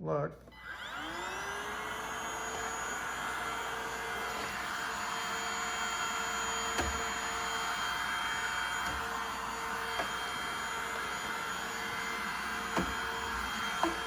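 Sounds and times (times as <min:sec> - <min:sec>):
handheld vacuum running: 0:00.4 - 0:14.0.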